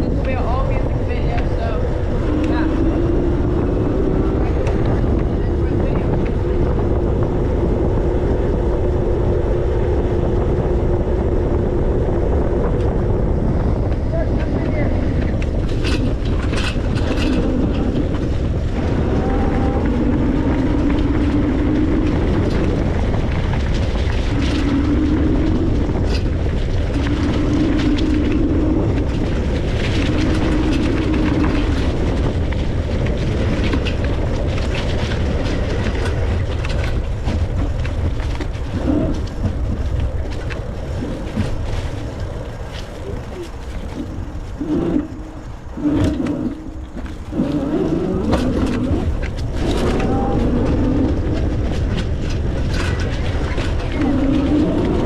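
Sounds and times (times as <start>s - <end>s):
low hum: 0.0s - 55.0s
tyres on road: 0.0s - 55.0s
wind on microphone: 0.0s - 55.0s.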